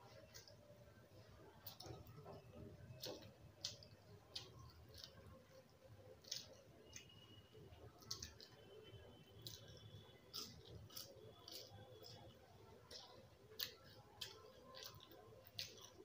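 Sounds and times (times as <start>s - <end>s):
chewing and lip-smacking: 0.0s - 16.0s.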